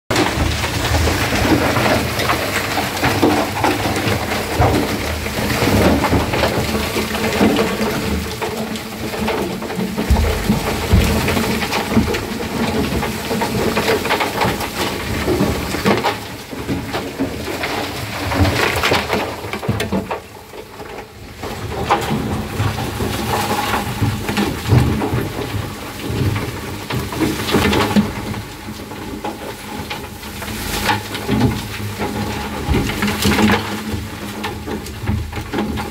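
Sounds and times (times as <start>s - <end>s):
concrete rattling against metal drum: 0.1s - 35.9s.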